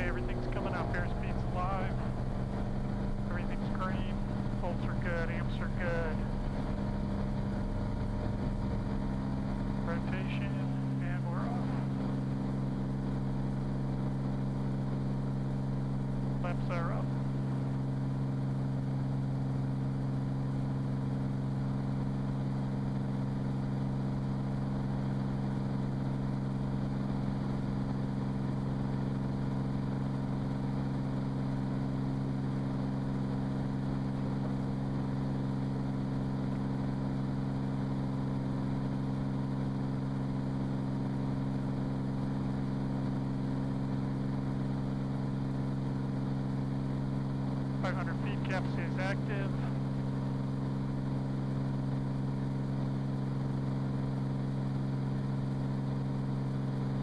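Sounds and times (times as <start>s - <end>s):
aircraft engine hum in cockpit: 0.0s - 57.0s.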